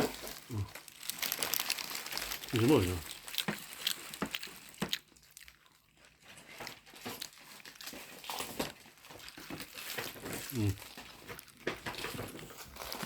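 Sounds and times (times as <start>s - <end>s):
crunching of food eaten: 0.0s - 13.0s
paper wrapper crinkling: 0.0s - 13.0s.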